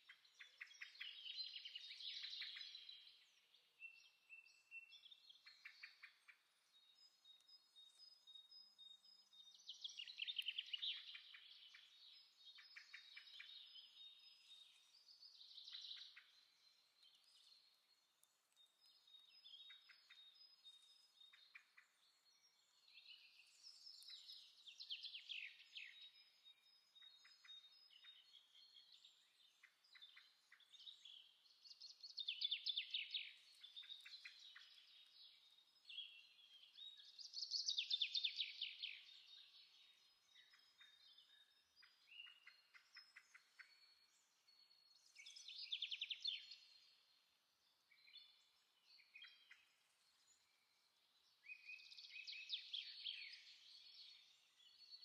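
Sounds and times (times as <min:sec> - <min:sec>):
faint birdsong chirps and trills: 0:00.0 - 0:55.0.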